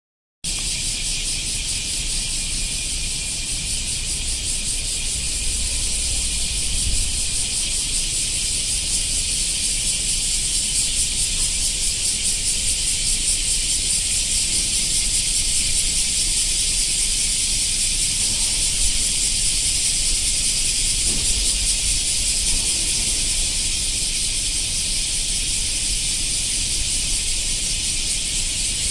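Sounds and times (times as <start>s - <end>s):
cicadas buzzing chorus: 0.4s - 28.9s.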